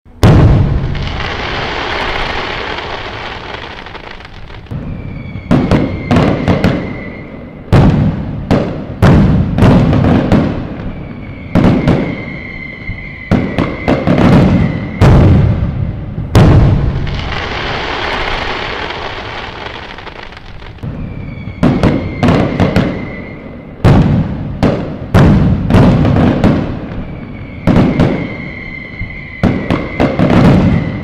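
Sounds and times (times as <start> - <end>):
fireworks bangs: 0.1 - 31.0
fireworks crackling fizz: 0.2 - 31.0
high fireworks whistle: 0.2 - 31.0.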